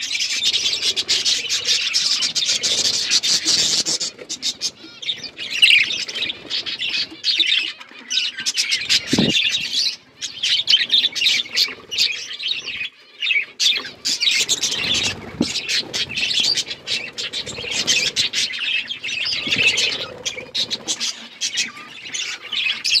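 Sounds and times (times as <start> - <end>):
budgerigars chirping and squawking: 0.0 - 23.0.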